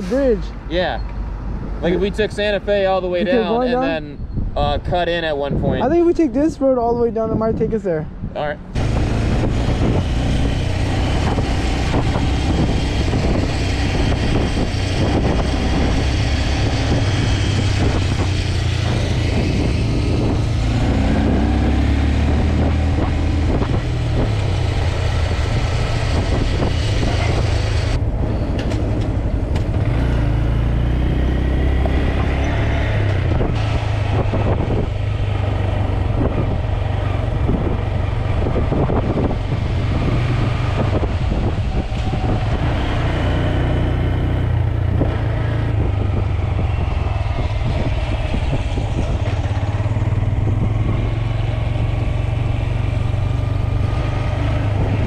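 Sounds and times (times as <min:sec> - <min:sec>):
motorcycle road noise: 0:00.0 - 0:55.0
wind rumble on microphone: 0:01.4 - 0:55.0.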